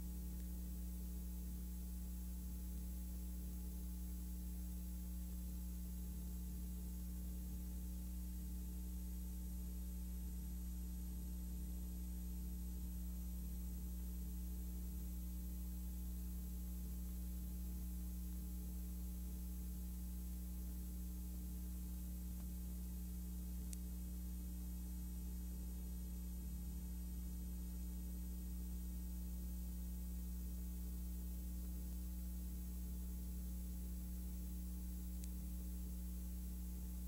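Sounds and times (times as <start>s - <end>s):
low electrical hum with hiss: 0.0s - 37.0s.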